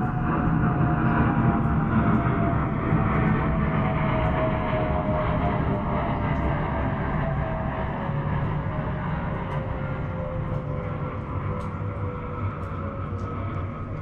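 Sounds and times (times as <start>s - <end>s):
airplane engine whining rush: 0.0s - 14.0s.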